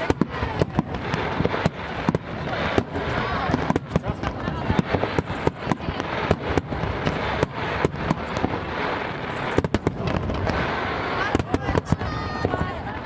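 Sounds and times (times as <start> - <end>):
continuous background noise: 0.0 - 13.0
fireworks bursting: 0.0 - 13.0.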